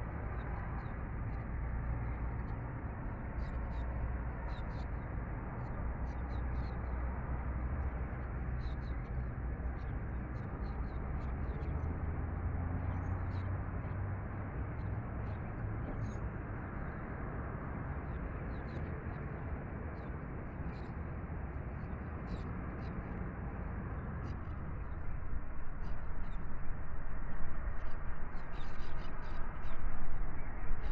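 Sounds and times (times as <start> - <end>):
low rumble and hiss: 0.0 - 30.9.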